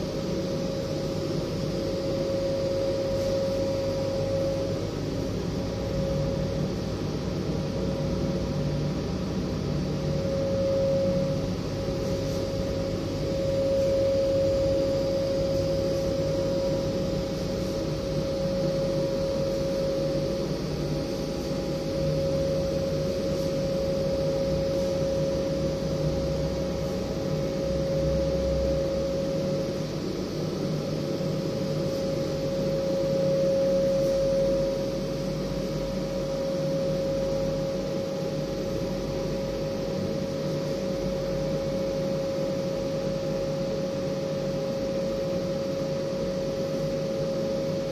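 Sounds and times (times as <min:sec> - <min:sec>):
constant machine whine: 0:00.0 - 0:47.9
machine hum and air rush: 0:00.0 - 0:47.9.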